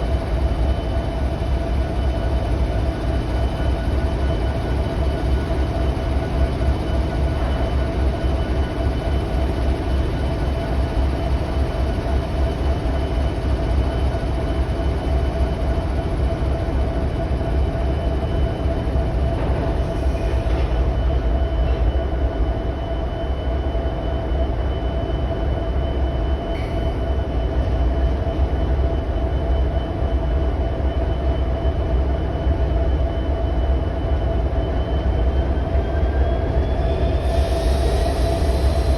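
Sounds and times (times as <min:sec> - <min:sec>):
freight train cars rumbling: 0:00.0 - 0:38.9.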